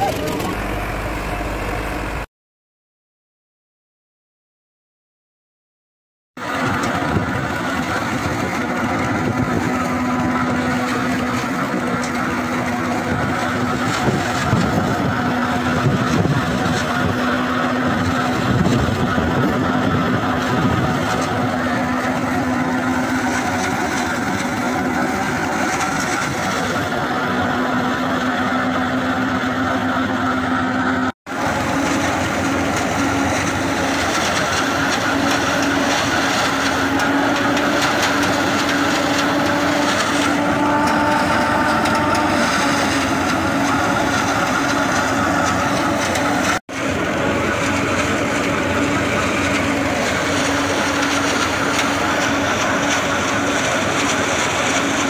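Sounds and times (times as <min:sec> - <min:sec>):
forage harvester mechanical din: 0:00.0 - 0:02.2, 0:06.4 - 0:55.0
tractor engine under load: 0:00.0 - 0:02.3, 0:06.4 - 0:55.0.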